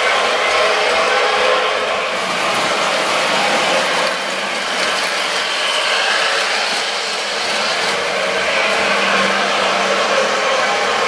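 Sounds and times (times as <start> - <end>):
model train whirring on metal rails: 0.0 - 11.0.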